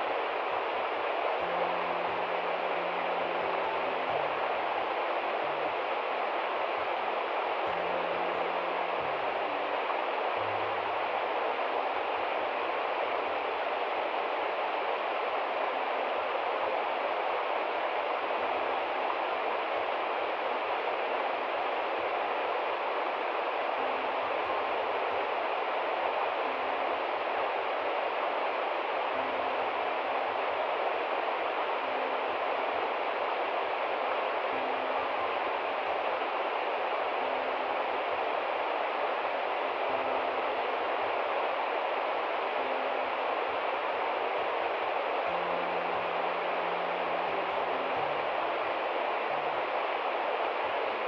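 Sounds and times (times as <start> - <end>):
river rushing over rocks: 0.0 - 51.0.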